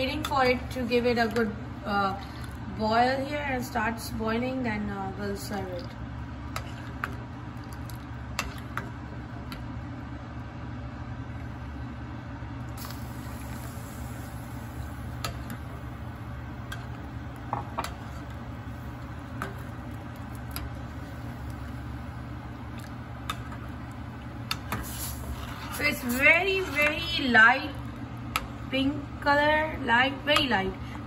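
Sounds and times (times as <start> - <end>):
stove humming: 0.0 - 31.0.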